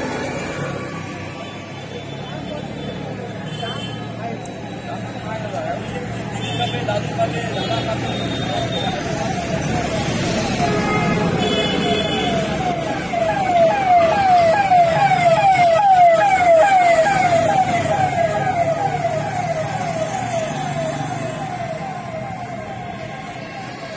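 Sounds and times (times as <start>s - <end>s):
road traffic noise: 0.0s - 23.9s
emergency vehicle siren: 4.1s - 23.9s.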